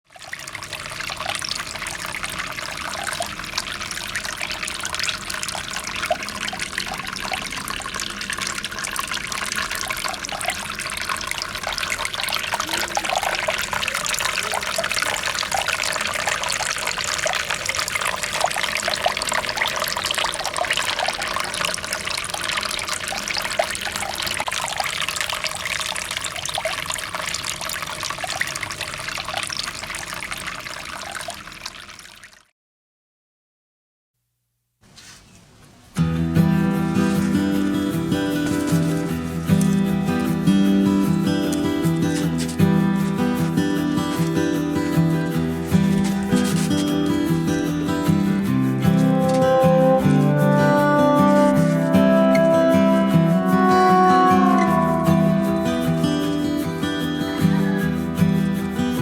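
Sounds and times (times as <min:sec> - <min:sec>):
water trickling and splashing: 0:00.0 - 0:32.5, 0:36.0 - 0:59.0.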